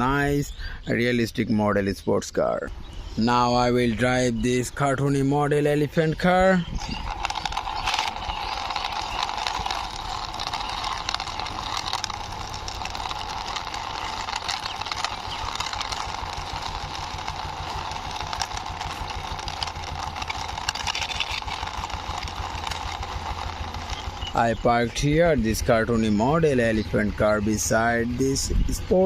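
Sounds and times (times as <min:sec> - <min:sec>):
toy car motor humming and rattling: 0:05.1 - 0:29.0.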